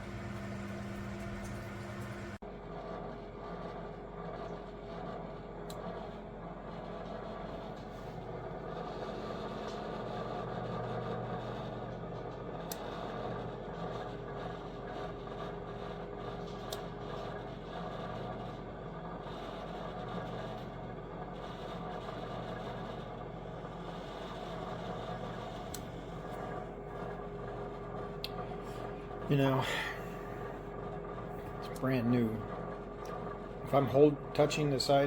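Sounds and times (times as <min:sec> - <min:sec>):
oven fan humming: 0:00.0 - 0:35.0.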